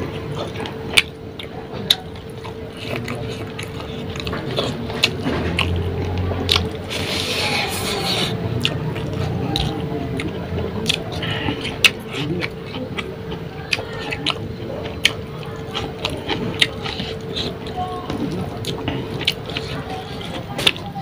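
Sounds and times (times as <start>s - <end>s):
faint steady hum: 0.0s - 21.0s
wet chewing and lip-smacking: 0.0s - 21.0s.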